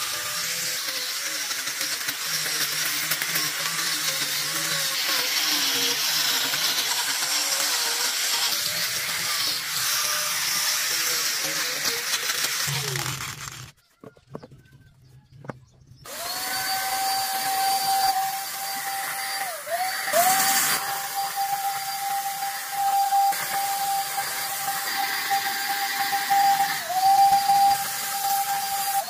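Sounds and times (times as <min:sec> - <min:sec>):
paint spray gun motor whine: 0:00.0 - 0:14.5, 0:16.0 - 0:29.0.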